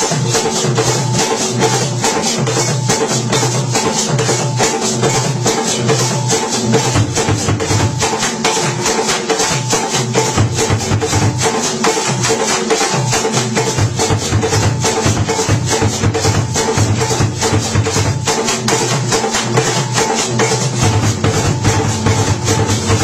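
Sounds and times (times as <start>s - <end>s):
drum ensemble playing: 0.0s - 23.0s.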